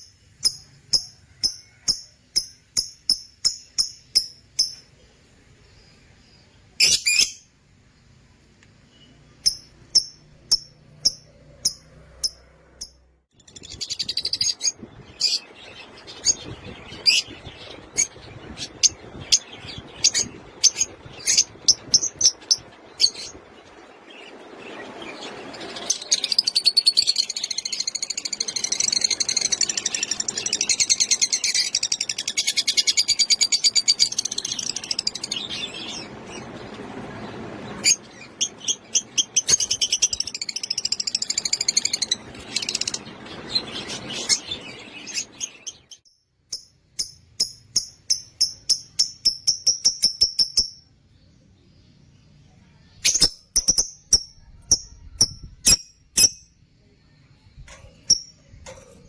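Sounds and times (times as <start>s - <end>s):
lovebirds chirping and chattering: 8.9s - 59.0s.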